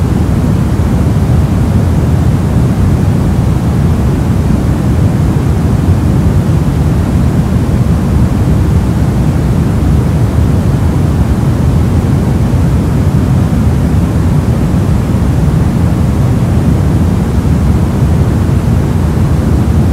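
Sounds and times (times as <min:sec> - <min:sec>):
deep steady hiss: 0:00.0 - 0:19.9.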